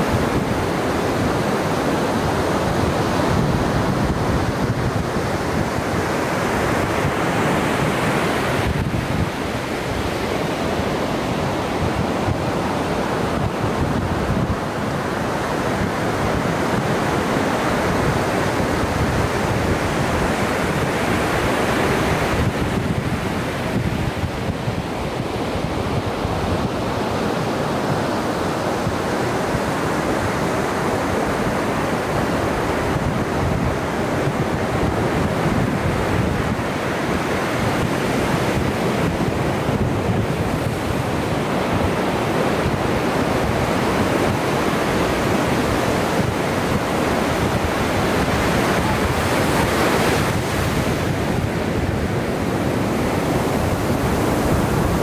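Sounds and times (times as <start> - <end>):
ocean surf washing onto beach: 0.0 - 55.0
wind on microphone: 0.0 - 55.0.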